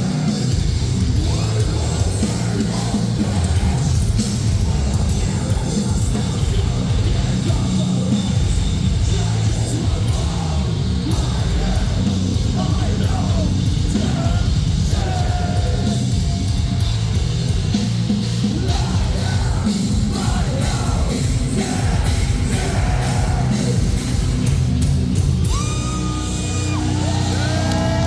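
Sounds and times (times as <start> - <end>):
distorted guitars: 0.0 - 28.0
drums: 0.0 - 28.0
yelled vocals: 0.0 - 28.0.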